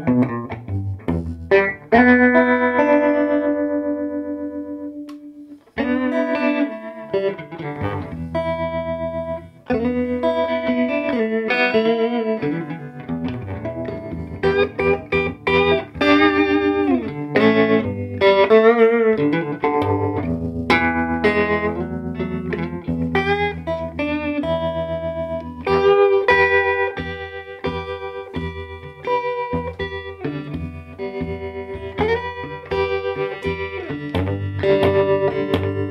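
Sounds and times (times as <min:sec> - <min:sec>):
electric guitar with tremolo: 0:00.0 - 0:35.9.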